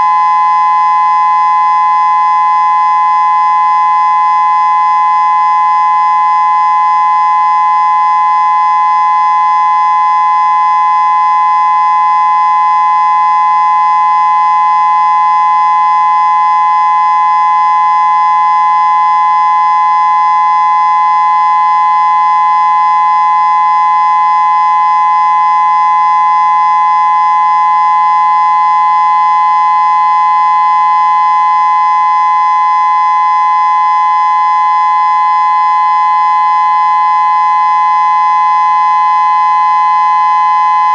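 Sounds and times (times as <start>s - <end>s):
steady warning siren tone: 0.0s - 40.9s.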